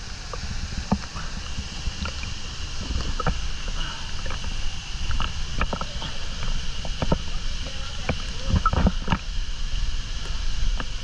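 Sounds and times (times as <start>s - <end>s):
steady low rumble: 0.0s - 11.0s
water splashing and lapping: 0.0s - 11.0s.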